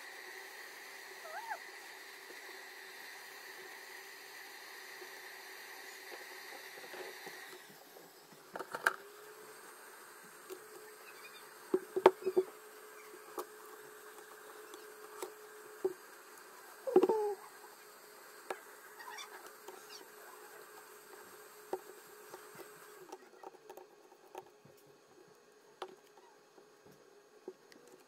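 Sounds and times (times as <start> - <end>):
faint hum: 0.0 - 28.0.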